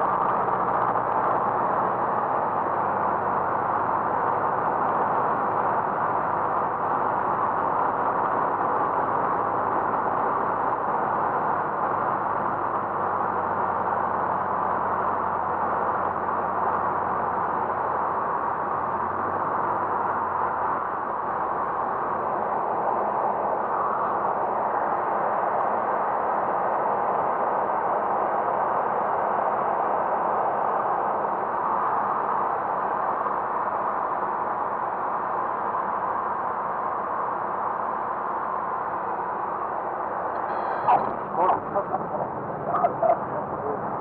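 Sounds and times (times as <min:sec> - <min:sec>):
propeller aircraft engine droning: 0:00.0 - 0:44.0.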